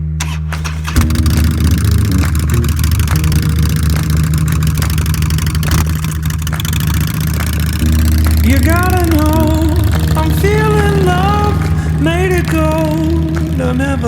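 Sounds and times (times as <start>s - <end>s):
motorcycle engine running: 0.2s - 14.0s.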